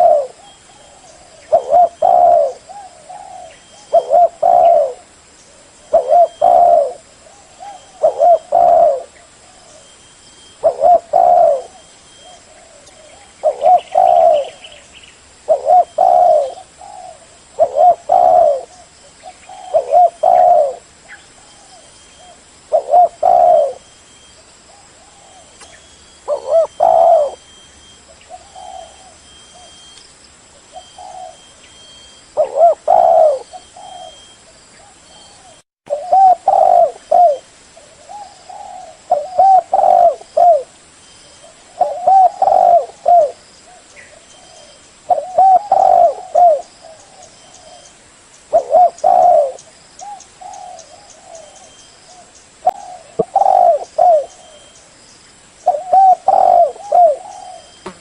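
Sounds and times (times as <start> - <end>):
dove cooing: 0.0 - 14.8, 15.5 - 23.9, 24.7 - 29.9, 30.6 - 40.8, 41.4 - 54.8, 55.6 - 58.0.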